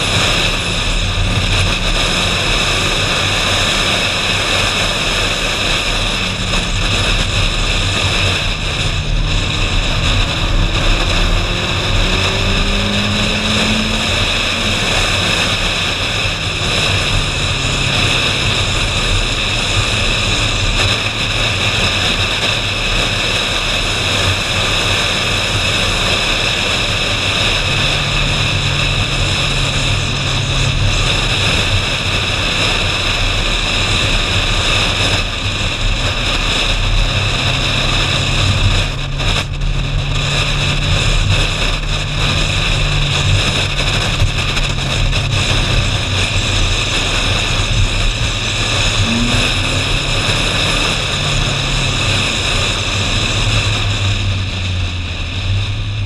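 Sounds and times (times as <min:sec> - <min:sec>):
car engine running: 0:00.0 - 0:56.0
road noise: 0:00.0 - 0:56.0
wind noise: 0:00.0 - 0:56.0.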